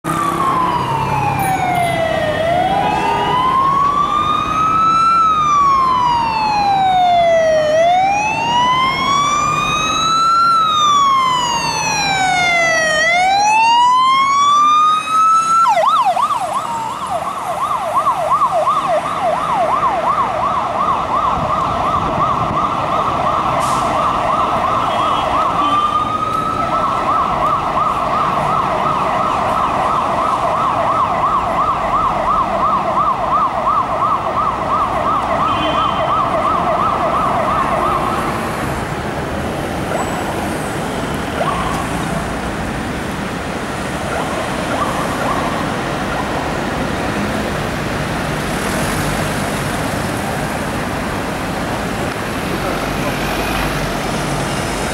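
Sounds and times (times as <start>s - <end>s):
fire engine siren: 0.0s - 54.9s.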